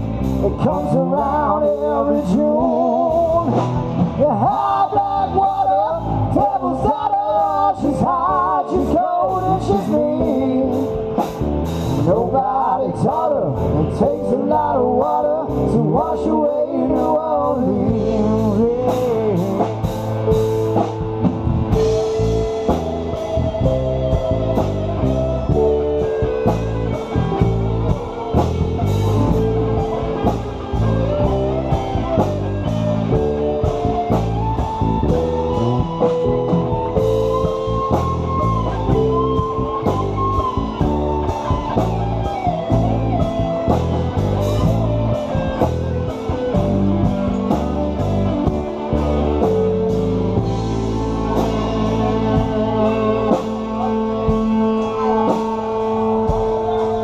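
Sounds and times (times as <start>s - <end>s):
blues-rock band playing: 0.0s - 57.0s
electric guitar lead line: 0.0s - 57.0s.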